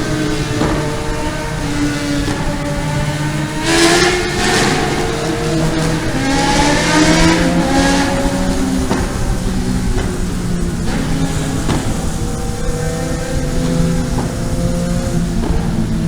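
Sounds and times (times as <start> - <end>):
rushing noise: 0.0 - 16.0
vehicle engine climbing: 0.0 - 16.0.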